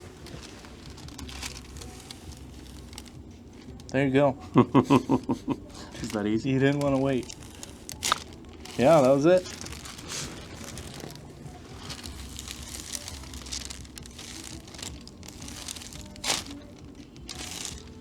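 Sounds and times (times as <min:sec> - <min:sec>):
rustling and crinkling on a table: 0:00.0 - 0:04.2, 0:04.9 - 0:18.0.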